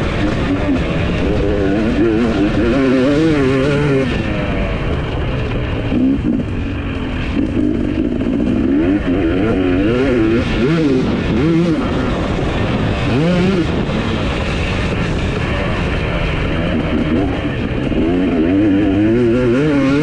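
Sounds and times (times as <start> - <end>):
motocross engine revving: 0.0 - 20.0.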